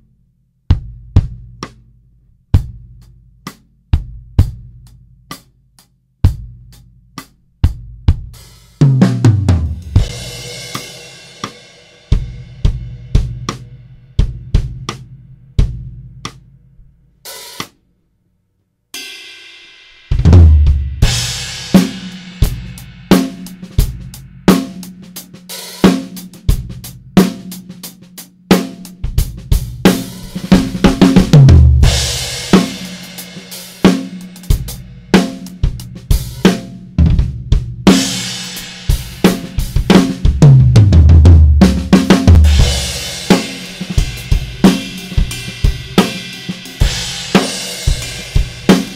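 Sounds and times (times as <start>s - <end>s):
drum kit groove: 0.7s - 17.8s, 19.0s - 48.9s.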